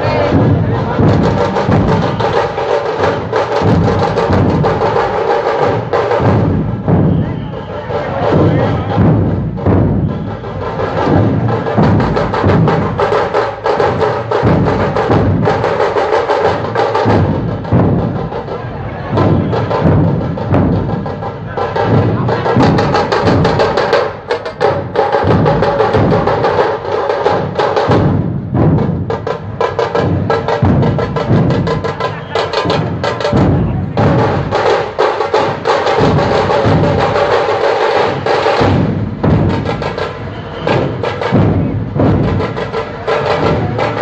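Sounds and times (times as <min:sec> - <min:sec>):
drums pounding fast rhythm: 0:00.0 - 0:44.0.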